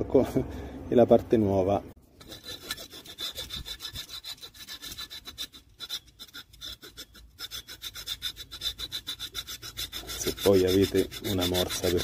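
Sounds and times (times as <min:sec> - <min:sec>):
hand file scraping brake pad: 0:02.2 - 0:12.0.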